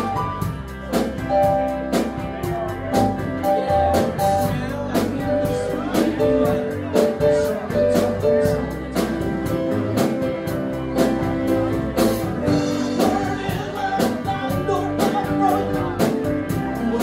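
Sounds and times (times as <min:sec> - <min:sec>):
drum beat: 0:00.0 - 0:17.0
person singing: 0:00.0 - 0:17.0
rock band playing: 0:00.0 - 0:17.0.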